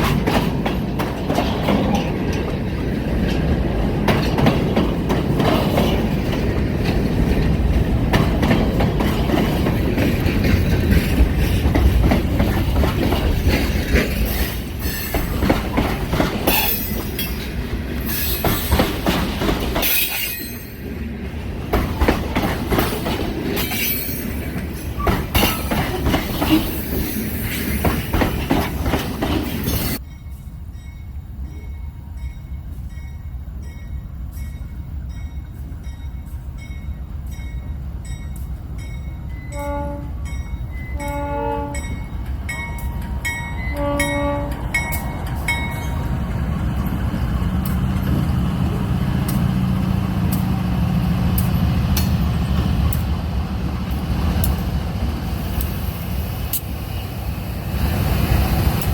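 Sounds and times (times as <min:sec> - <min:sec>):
train wheels clattering on rails: 0:00.0 - 0:30.0, 0:40.2 - 0:58.9.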